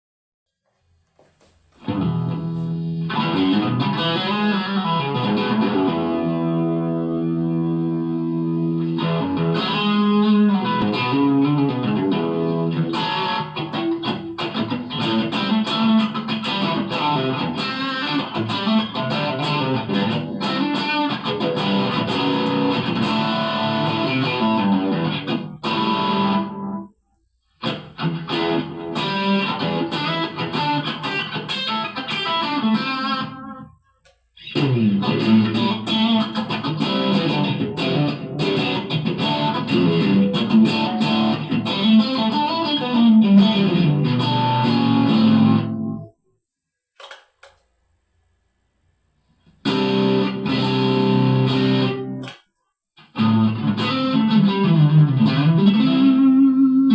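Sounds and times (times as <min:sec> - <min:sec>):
electric guitar playing: 0:01.8 - 0:26.9, 0:27.6 - 0:33.8, 0:34.4 - 0:46.1, 0:49.6 - 0:52.3, 0:53.0 - 0:56.9.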